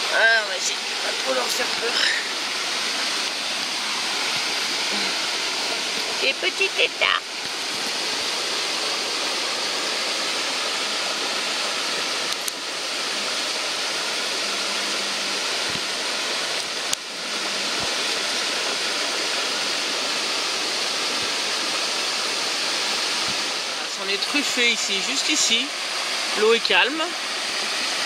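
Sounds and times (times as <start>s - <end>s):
water rushing in a torrent: 0.0s - 28.0s.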